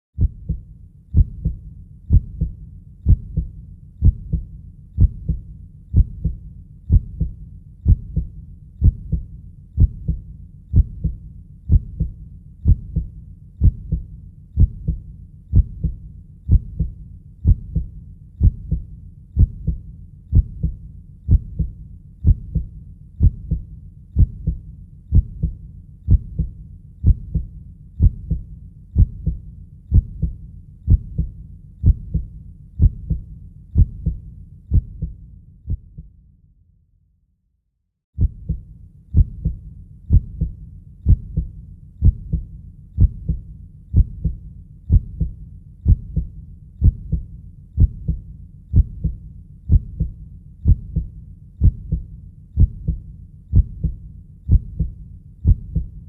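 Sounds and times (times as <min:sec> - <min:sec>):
slow heartbeat: 0:00.2 - 0:36.1, 0:38.2 - 0:56.0.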